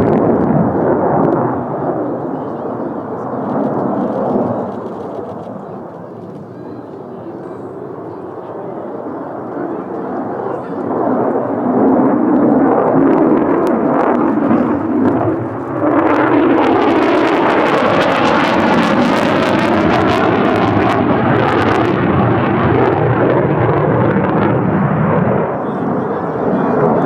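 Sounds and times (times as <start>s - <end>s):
jet engine roar with crackle: 0.0s - 27.0s.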